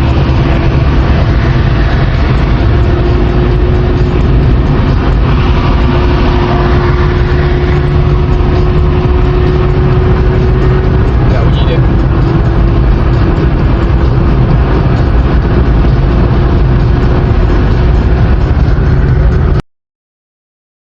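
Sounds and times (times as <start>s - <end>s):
heavy rushing noise: 0.0s - 19.6s
motorcycle engine cruising: 0.0s - 19.6s.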